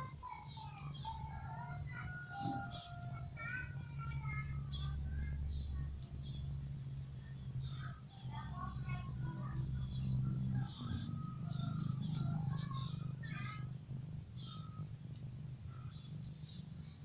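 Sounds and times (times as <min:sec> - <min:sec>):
crickets trilling: 0:00.0 - 0:17.0
low steady hum: 0:00.0 - 0:17.0.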